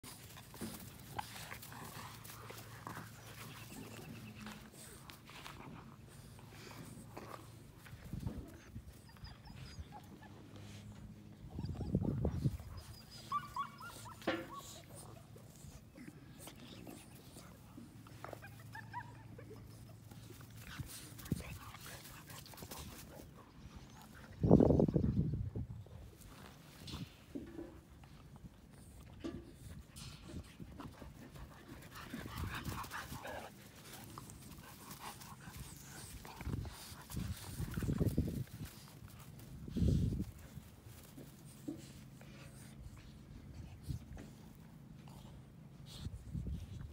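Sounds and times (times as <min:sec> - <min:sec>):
puppies panting: 0:00.0 - 0:46.9
puppies scuffling on grass: 0:00.0 - 0:46.9.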